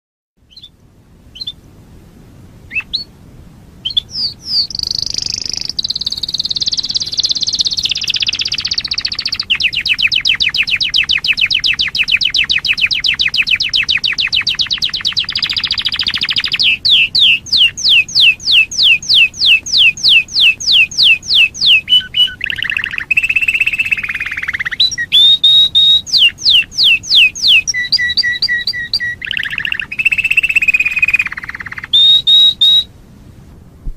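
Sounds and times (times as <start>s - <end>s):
canary singing: 0.5s - 1.6s, 2.7s - 3.1s, 3.8s - 32.9s.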